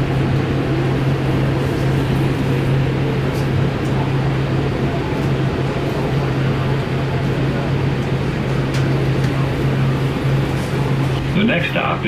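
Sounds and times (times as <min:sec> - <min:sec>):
constant low hum: 0:00.0 - 0:12.0
light rail car interior noise: 0:00.0 - 0:12.0.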